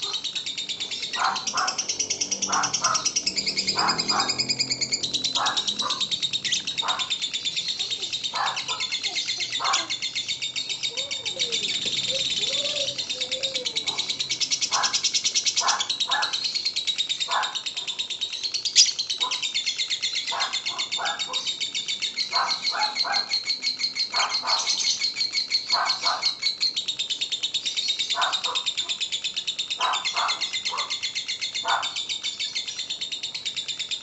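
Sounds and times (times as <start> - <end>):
lovebird chattering song: 0.0 - 34.0
lower bird chirps: 0.0 - 34.0.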